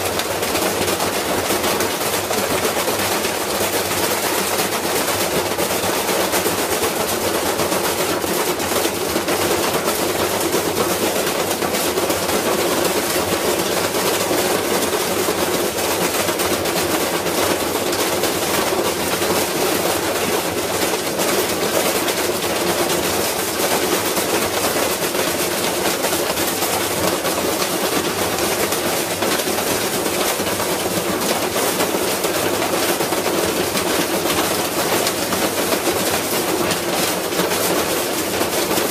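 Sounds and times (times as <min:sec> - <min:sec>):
washing machine clattering and banging: 0:00.0 - 0:38.9.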